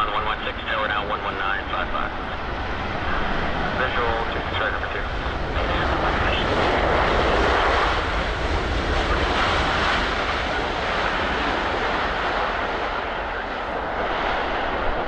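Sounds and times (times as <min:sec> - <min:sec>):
jet roar on landing: 0:00.0 - 0:15.0.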